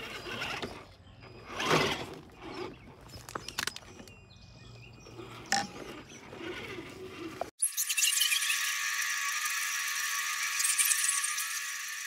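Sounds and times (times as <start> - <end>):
toy car electric motor whirring: 0.0 - 3.8, 5.1 - 12.0.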